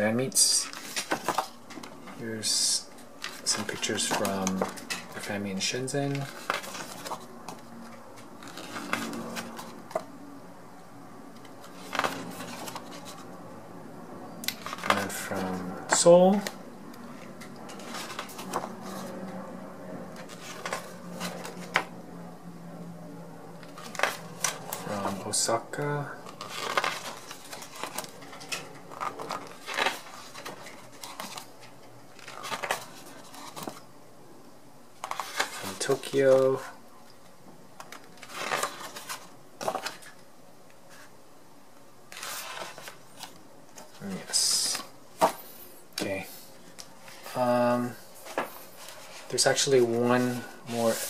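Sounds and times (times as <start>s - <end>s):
page turning rustle: 0.3s - 10.1s, 11.3s - 13.3s, 14.5s - 19.4s, 20.1s - 21.9s, 23.6s - 33.8s, 35.0s - 36.8s, 37.8s - 40.2s, 42.1s - 51.0s.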